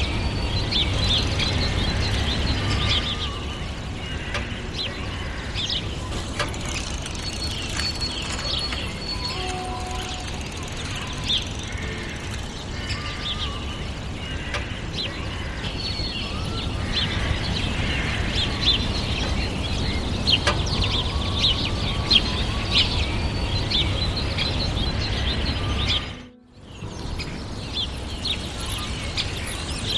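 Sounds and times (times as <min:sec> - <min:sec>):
birds chirping: 0:00.0 - 0:29.9.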